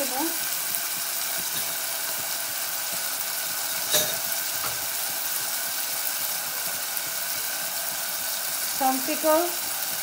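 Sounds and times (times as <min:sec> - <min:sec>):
masala sizzling in saucepan: 0:00.0 - 0:10.0.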